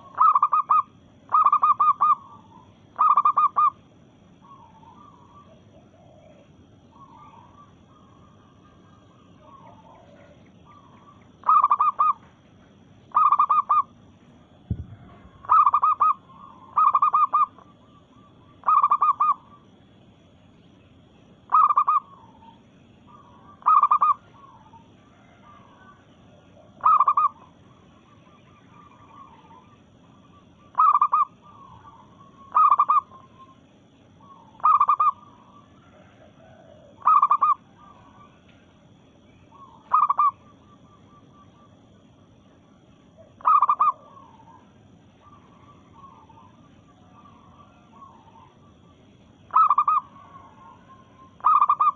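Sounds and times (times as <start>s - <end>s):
dove cooing: 0.0s - 3.8s, 4.4s - 12.3s, 13.1s - 14.0s, 14.8s - 19.8s, 21.5s - 38.6s, 39.3s - 42.0s, 43.0s - 51.9s.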